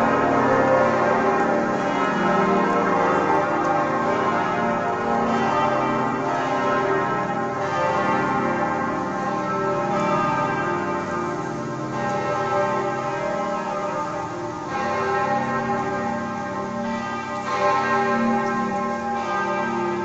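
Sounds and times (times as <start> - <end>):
church bells pealing: 0.0 - 20.0.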